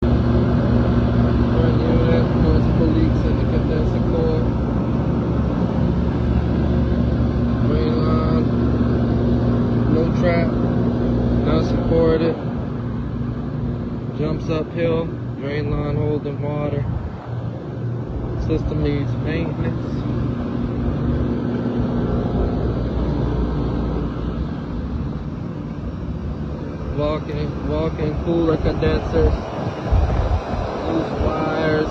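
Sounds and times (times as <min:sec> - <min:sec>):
air conditioning units humming: 0:00.0 - 0:31.9.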